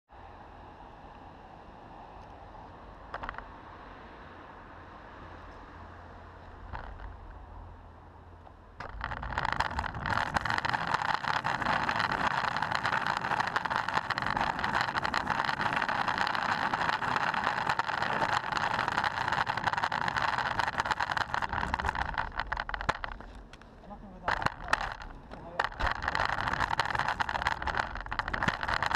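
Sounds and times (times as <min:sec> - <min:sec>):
longboard wheels rolling on asphalt: 0:00.8 - 0:28.9.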